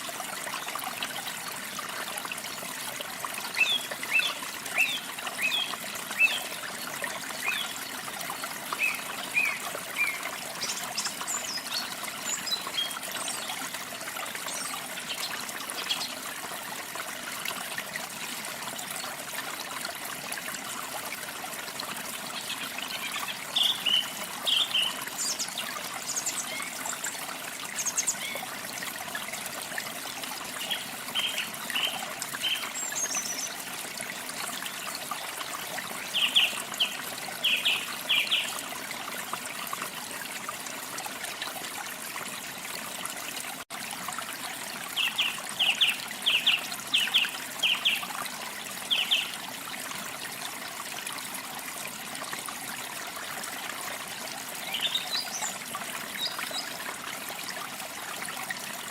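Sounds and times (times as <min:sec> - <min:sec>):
trickle of running water: 0:00.0 - 0:58.9.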